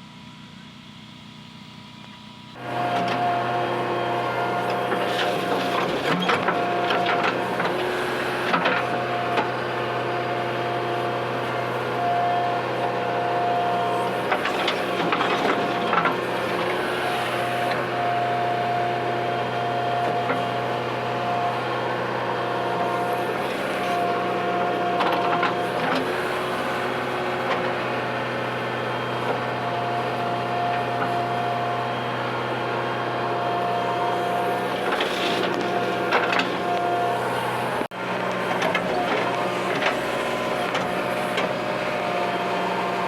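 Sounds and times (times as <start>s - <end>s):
diesel engine running: 0.0s - 43.0s
hydraulic whine: 0.9s - 43.0s.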